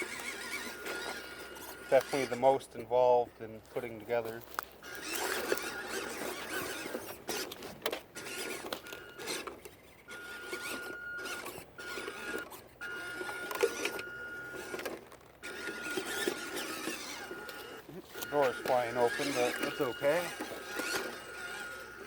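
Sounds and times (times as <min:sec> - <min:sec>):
electric motor whine: 0:00.0 - 0:02.6, 0:04.8 - 0:22.0
tyres scrabbling on dirt: 0:00.0 - 0:22.0.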